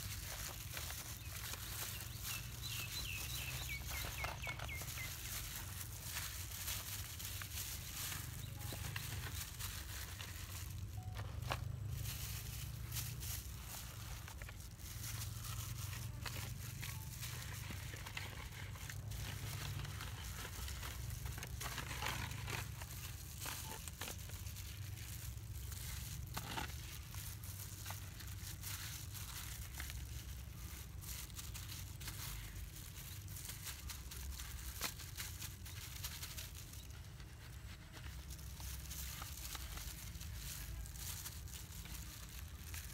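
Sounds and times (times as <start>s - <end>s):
plastic glove and foil crinkling: 0.0s - 42.9s.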